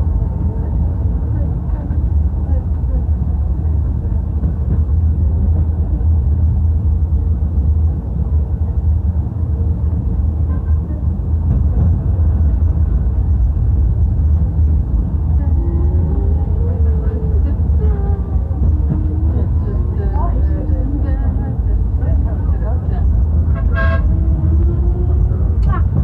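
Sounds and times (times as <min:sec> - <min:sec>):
tram rumbling on track: 0:00.0 - 0:26.0.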